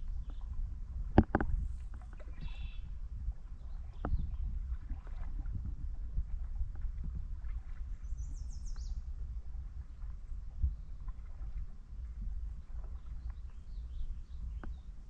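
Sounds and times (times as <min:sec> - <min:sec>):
low rumble: 0:00.0 - 0:15.0
water lapping against a kayak hull: 0:00.0 - 0:15.0.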